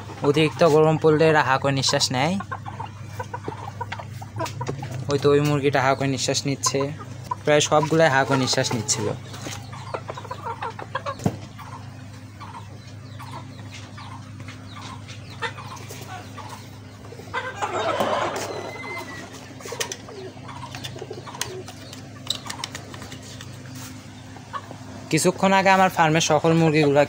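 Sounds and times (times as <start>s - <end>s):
chickens clucking: 0.0s - 27.0s
steady low hum: 0.0s - 27.0s.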